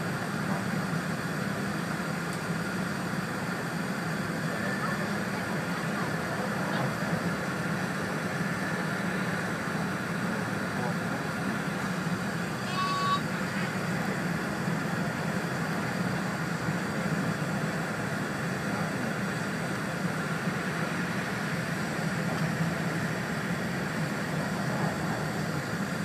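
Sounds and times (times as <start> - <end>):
train cabin low rumble with hiss: 0.0 - 26.0.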